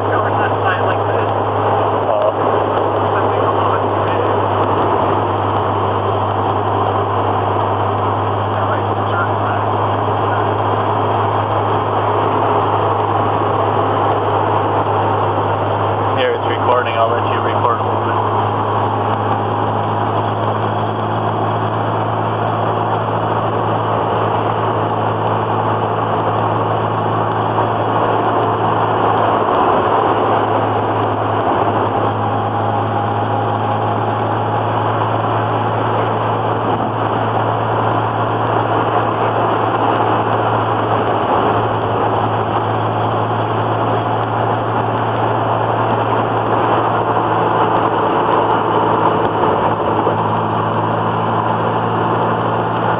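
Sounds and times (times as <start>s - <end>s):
car engine drone: 0.0s - 52.9s
road noise hiss: 0.0s - 52.9s.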